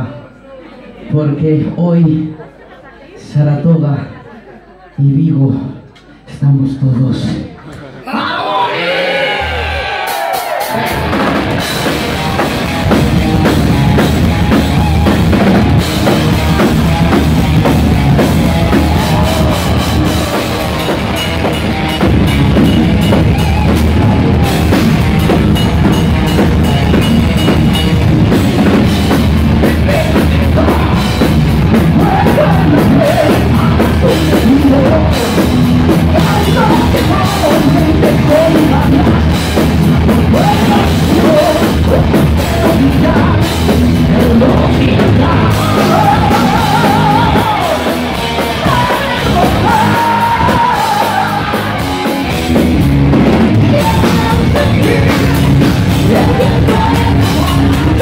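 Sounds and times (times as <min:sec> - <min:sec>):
bass guitar: 0:08.5 - 0:58.0
drum kit: 0:09.1 - 0:58.0
electric guitar: 0:09.4 - 0:58.0.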